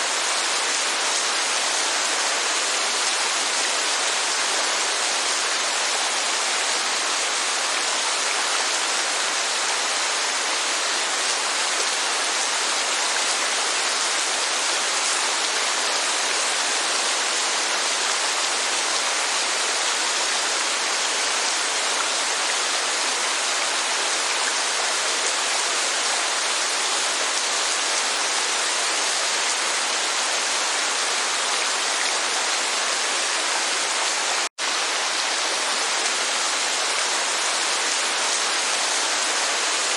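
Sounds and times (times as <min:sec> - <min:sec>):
rain and falling water: 0:00.0 - 0:39.9.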